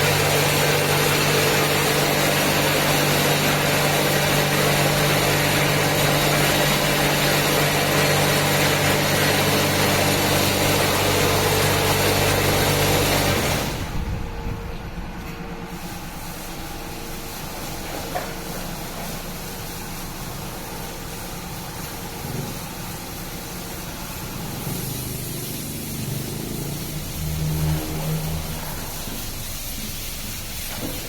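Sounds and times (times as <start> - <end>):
water spraying: 0.0 - 14.1, 15.6 - 31.0
car wash machine hum: 0.0 - 31.0.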